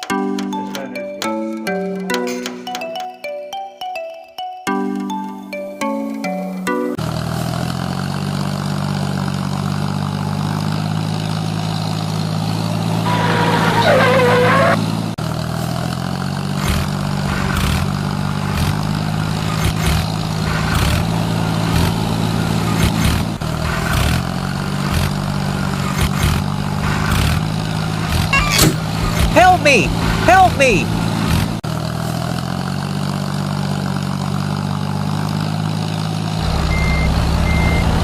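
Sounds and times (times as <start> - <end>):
tractor engine hum: 6.1 - 38.0.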